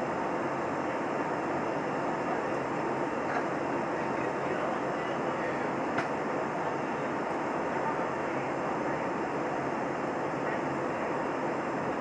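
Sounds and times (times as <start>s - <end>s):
aircraft cabin engine and airflow noise: 0.0s - 12.0s.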